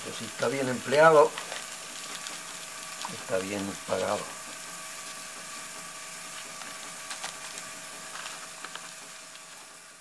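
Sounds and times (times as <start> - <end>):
room hum and hiss: 0.0 - 10.0.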